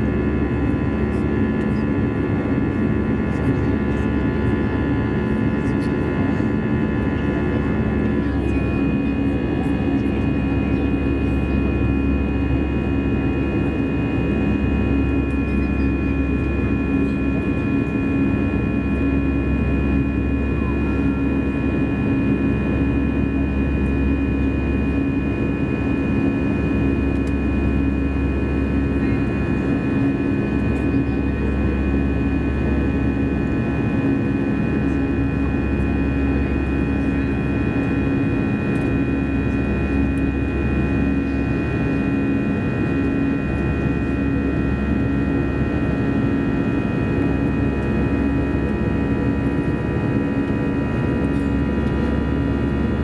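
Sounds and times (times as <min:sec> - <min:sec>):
aircraft cabin drone: 0:00.0 - 0:53.0.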